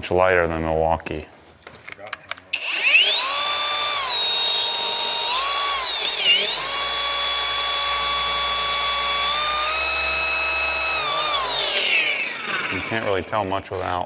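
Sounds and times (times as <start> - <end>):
car polisher whining: 2.6 - 13.8.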